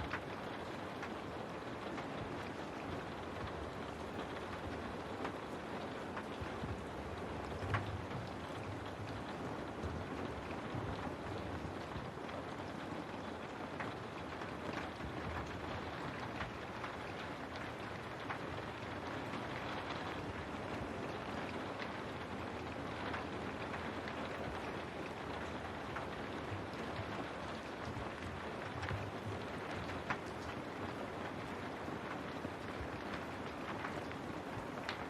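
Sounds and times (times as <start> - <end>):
rain drops striking a window: 0.0 - 35.0.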